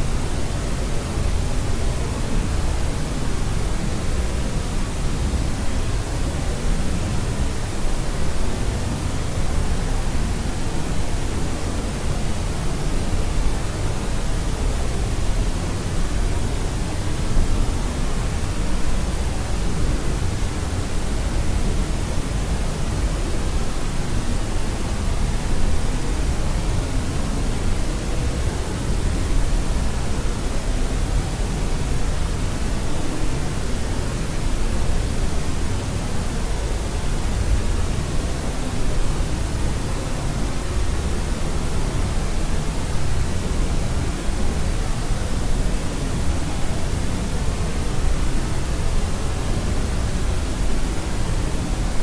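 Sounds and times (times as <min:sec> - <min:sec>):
deep white noise hiss: 0:00.0 - 0:52.0.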